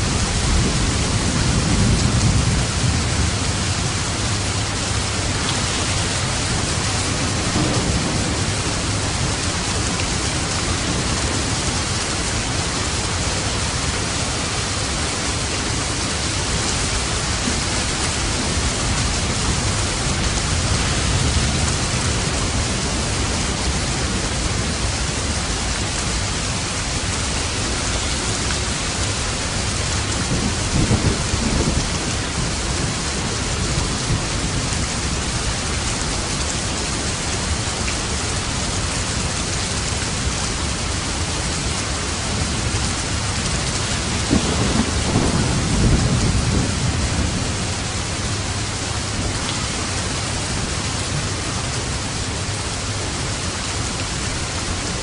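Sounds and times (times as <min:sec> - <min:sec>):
thunder rumbling: 0:00.0 - 0:36.4, 0:40.2 - 0:53.4
rain hissing: 0:00.0 - 0:55.0.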